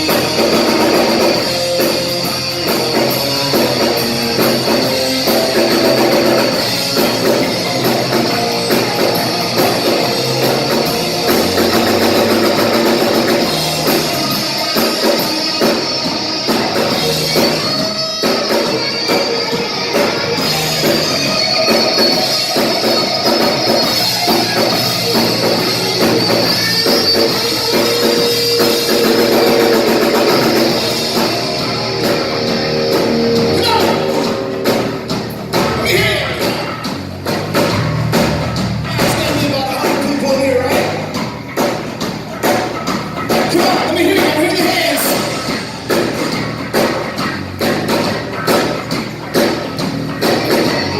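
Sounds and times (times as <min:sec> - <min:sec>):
rock music with electric guitar: 0:00.0 - 0:50.9.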